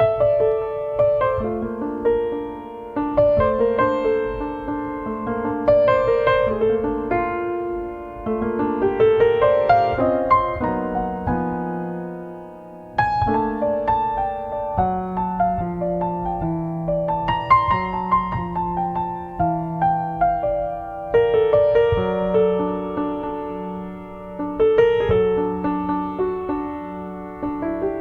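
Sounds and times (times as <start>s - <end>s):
slow solo piano: 0.0s - 28.0s.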